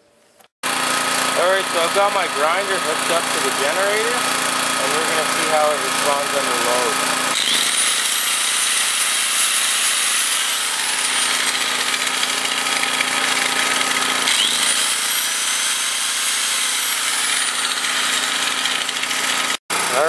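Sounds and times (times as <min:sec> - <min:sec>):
generator engine running: 0:00.6 - 0:09.6, 0:10.4 - 0:20.0
angle grinder whining: 0:00.6 - 0:20.0.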